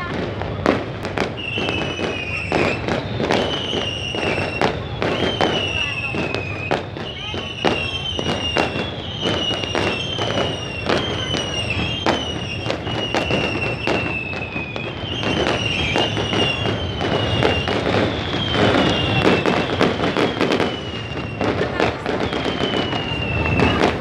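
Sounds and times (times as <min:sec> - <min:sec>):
firework whistles: 0:00.0 - 0:24.0
fireworks bangs and crackles: 0:00.0 - 0:24.0.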